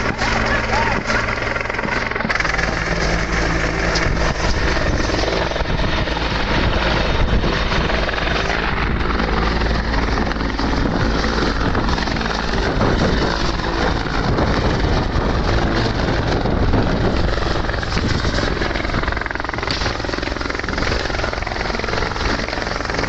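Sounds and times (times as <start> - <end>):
helicopter hovering: 0.0 - 23.0.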